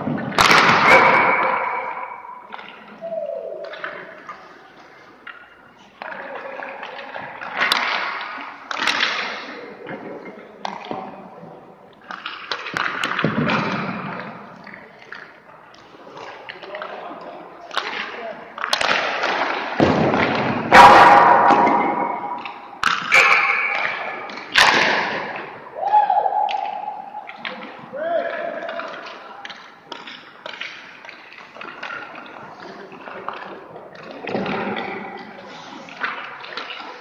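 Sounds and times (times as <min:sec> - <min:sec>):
pucks thudding and cracking: 0:00.0 - 0:03.0, 0:03.6 - 0:37.0.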